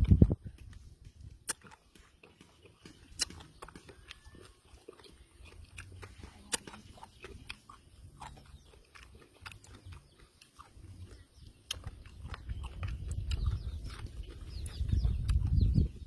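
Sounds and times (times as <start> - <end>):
man chewing and biting: 0.0 - 16.0
wet mouth clicks and smacks: 0.0 - 16.0.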